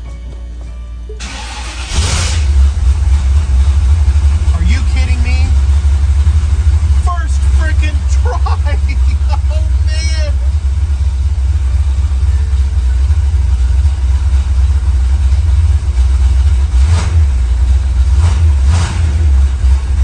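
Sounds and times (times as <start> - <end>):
car engine running: 1.2 - 20.0.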